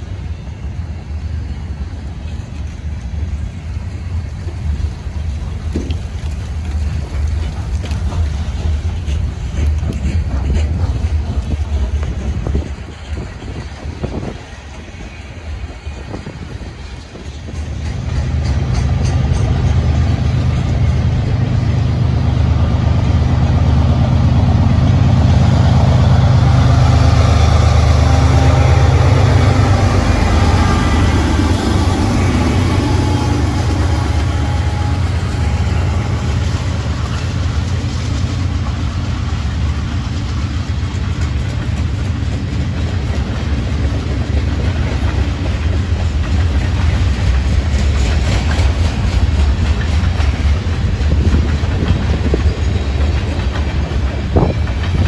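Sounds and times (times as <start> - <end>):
diesel locomotives passing: 0.0 - 55.0
train wheels rumbling on rail: 0.0 - 55.0.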